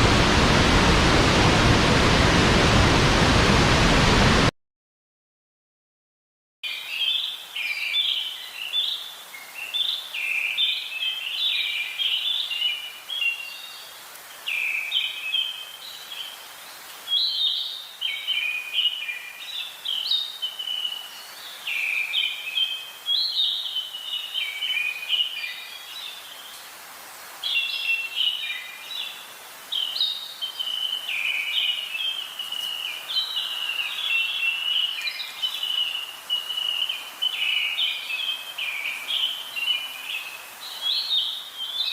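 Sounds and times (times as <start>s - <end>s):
faint hiss: 6.8s - 41.9s.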